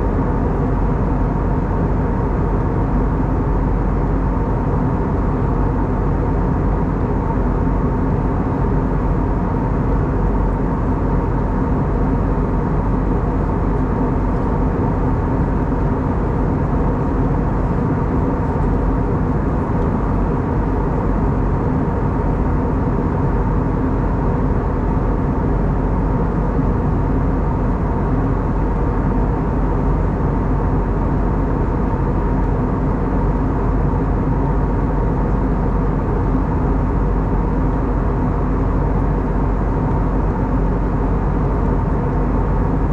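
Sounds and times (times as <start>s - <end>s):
jet engines humming: 0.0s - 42.9s.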